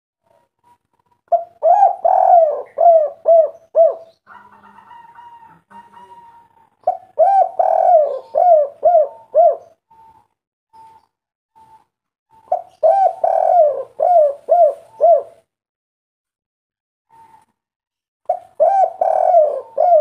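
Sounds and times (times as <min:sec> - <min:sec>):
dove cooing: 0:00.2 - 0:11.0, 0:11.6 - 0:15.5, 0:18.3 - 0:20.0.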